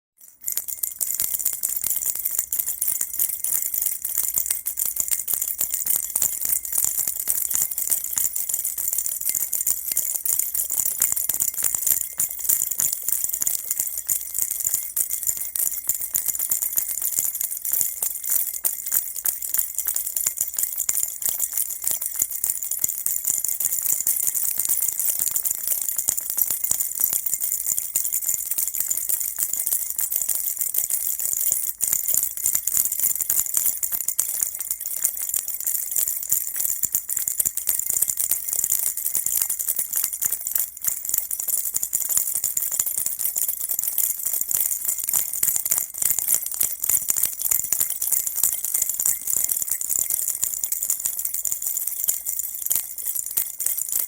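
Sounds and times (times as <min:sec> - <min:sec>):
baby rattle shaken: 0:00.2 - 0:54.0.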